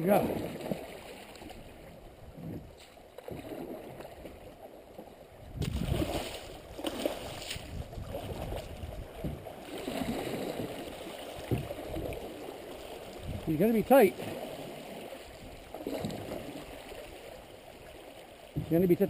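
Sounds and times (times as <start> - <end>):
canoe hull and paddle splashes: 0.0 - 19.0
river water rippling and rushing: 0.0 - 19.0.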